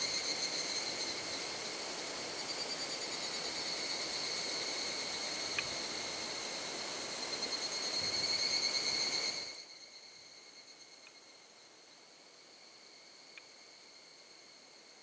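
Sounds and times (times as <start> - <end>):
pulsing insect trill: 0.0 - 15.0.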